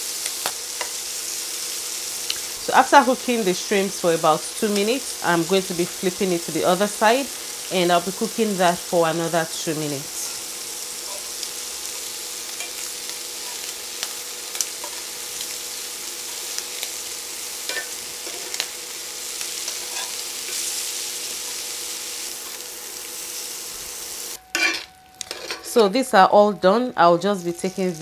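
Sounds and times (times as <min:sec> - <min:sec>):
shrimp sizzling in a skillet: 0:00.0 - 0:25.8, 0:27.3 - 0:28.0.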